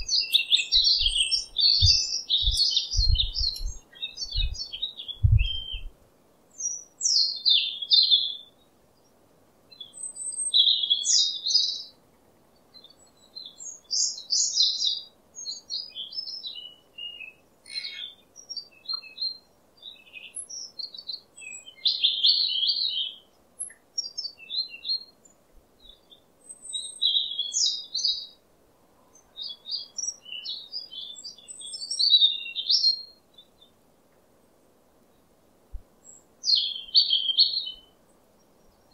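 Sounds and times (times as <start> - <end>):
faint background hiss: 0.0 - 38.9
songbirds chirping: 0.0 - 38.9.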